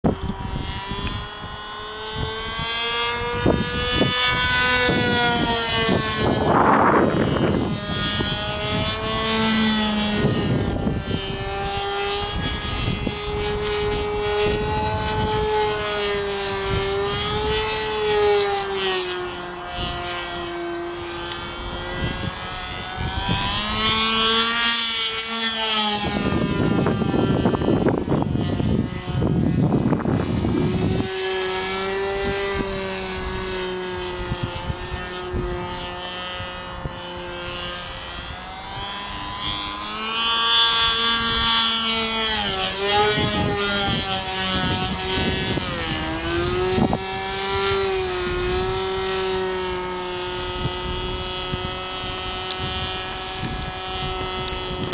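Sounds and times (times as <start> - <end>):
model plane engine: 0.0 - 54.9
wind rumbling on microphone: 0.0 - 54.9.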